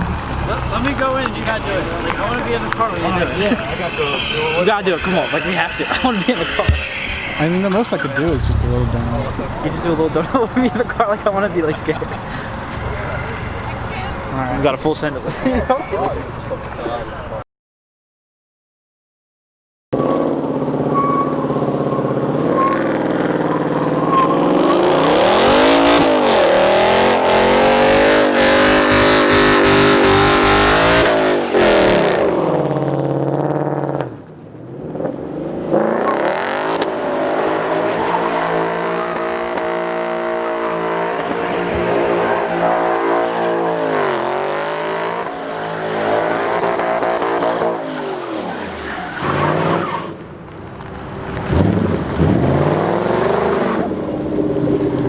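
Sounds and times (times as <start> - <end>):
car engine revving hard: 0.0 - 15.2, 24.1 - 34.2, 34.8 - 49.9, 50.8 - 55.0
tires squealing: 0.0 - 17.4, 20.1 - 34.1, 34.8 - 55.0.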